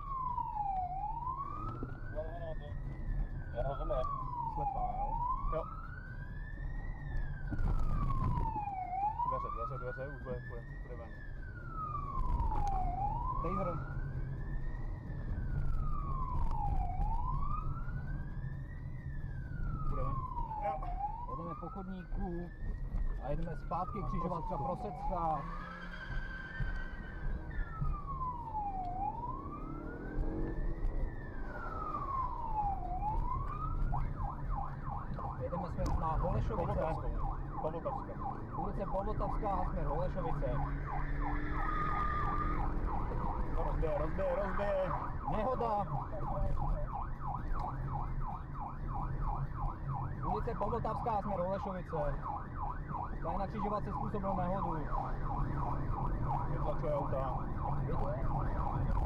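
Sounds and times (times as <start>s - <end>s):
engine and road noise: 0.0s - 59.0s
police siren wailing: 0.0s - 59.0s.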